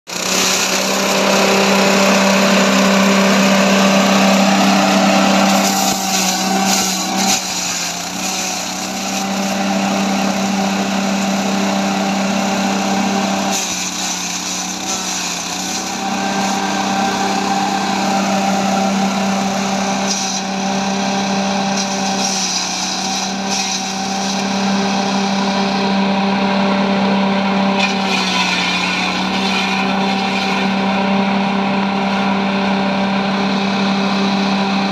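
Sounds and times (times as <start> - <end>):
grass chopper machine running: 0.1 - 34.9.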